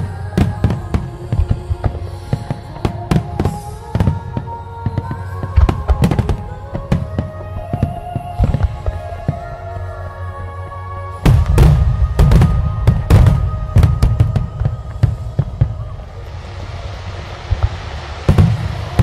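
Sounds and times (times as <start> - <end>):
music with long held notes: 0.0 - 19.0.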